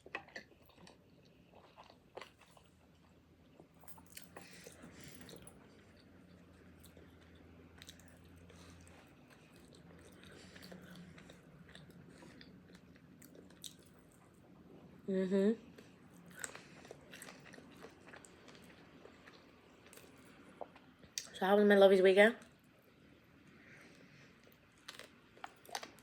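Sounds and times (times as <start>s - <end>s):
person chewing food: 0.0s - 14.4s, 15.8s - 21.3s, 23.8s - 26.0s.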